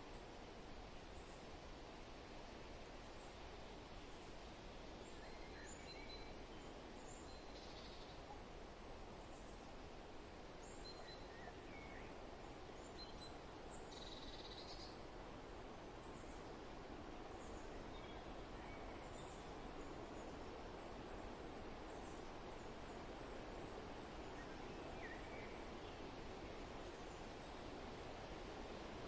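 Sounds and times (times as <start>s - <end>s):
soft steady wind: 0.0s - 29.0s.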